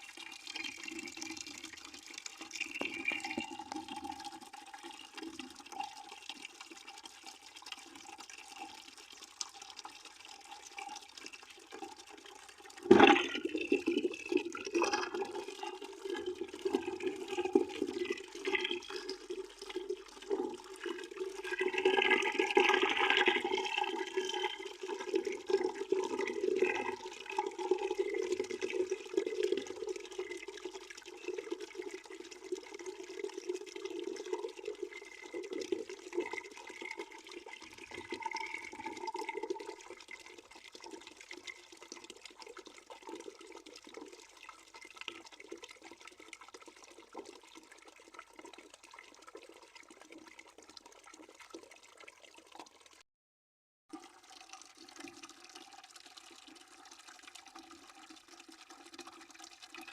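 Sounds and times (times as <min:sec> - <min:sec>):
water pouring into bucket: 0:00.0 - 0:53.0, 0:53.9 - 0:59.9.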